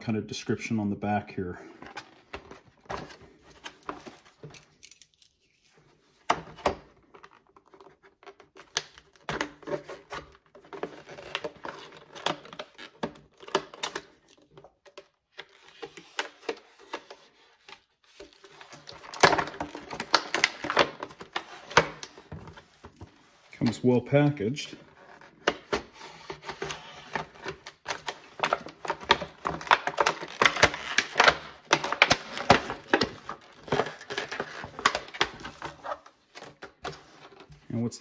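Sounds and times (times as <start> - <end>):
packaging being opened by hand: 1.8 - 37.7.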